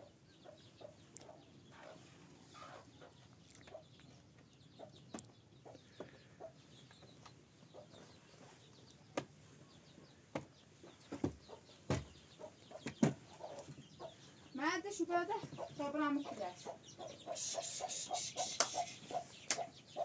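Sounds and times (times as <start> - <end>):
chickens clucking: 0.0 - 20.0
faint bird chirps: 0.0 - 20.0.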